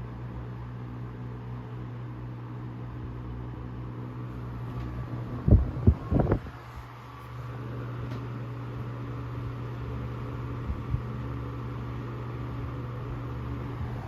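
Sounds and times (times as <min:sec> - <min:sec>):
table fan running: 0:00.0 - 0:14.0.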